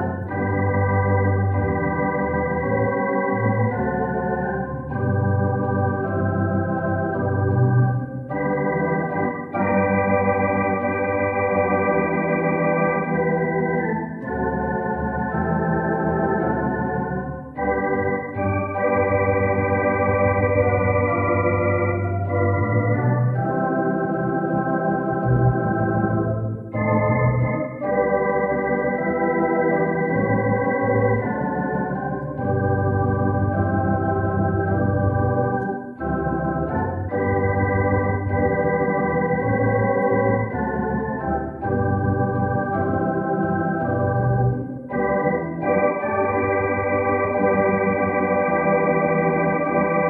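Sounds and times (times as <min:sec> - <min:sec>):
organ playing slow chords: 0:00.0 - 0:50.0.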